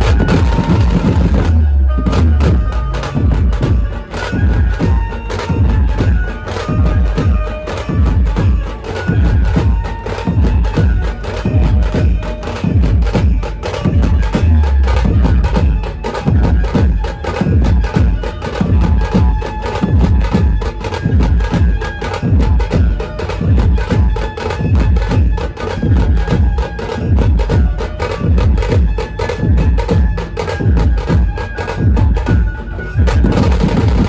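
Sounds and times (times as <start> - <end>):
fast heavy drumming: 0.0 - 34.0
reedy melody: 0.0 - 34.0.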